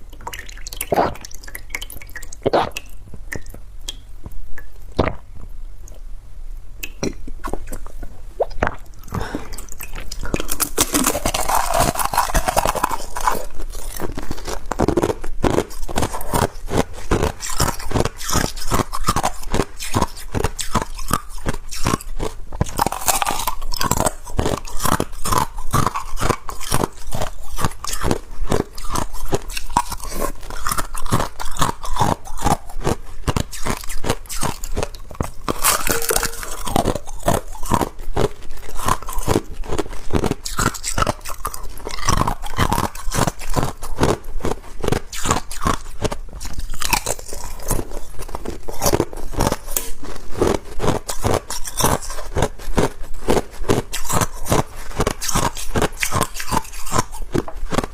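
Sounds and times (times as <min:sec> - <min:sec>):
ice being chewed: 0:00.0 - 0:06.0, 0:06.8 - 0:57.9.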